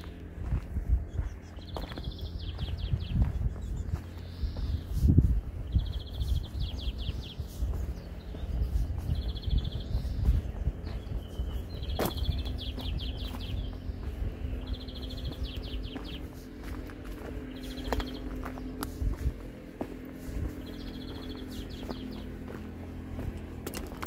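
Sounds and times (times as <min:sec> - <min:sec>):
footsteps on a path: 0:00.0 - 0:24.0
songbird singing: 0:00.0 - 0:24.0.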